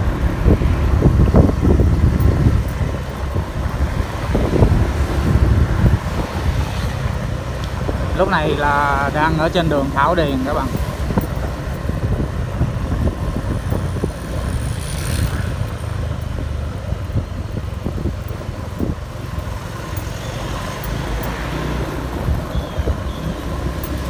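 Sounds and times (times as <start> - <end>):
vehicle noise on city street: 0.0 - 24.0
wind rumble: 0.0 - 24.0.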